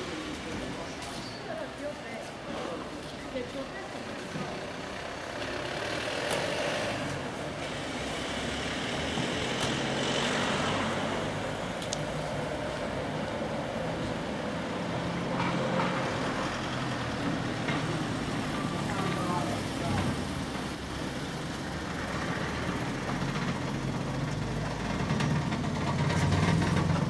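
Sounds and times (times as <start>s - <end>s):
street traffic noise: 0.0s - 27.0s.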